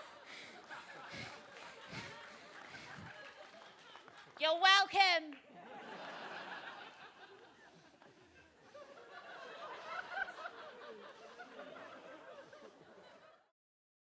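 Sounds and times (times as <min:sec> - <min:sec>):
audience laughing: 0:00.0 - 0:04.4, 0:05.5 - 0:13.5.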